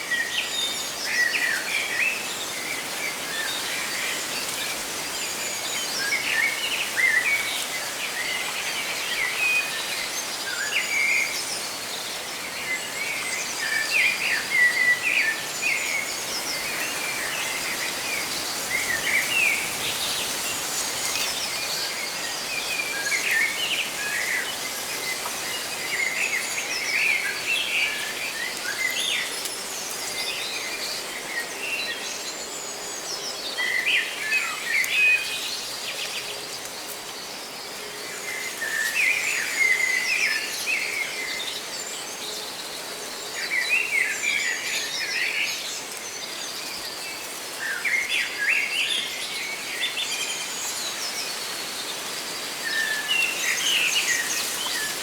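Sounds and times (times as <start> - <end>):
leaves rustling in the wind: 0.0 - 55.0.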